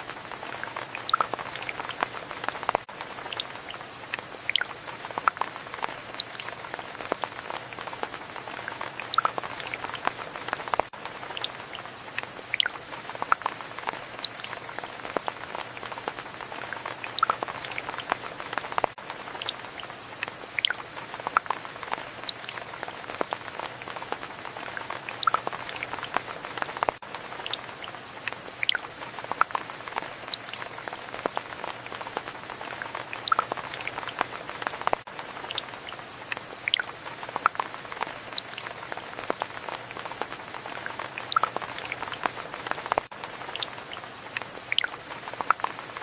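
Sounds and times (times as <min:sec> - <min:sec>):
rain drops pattering: 0:00.0 - 0:46.0.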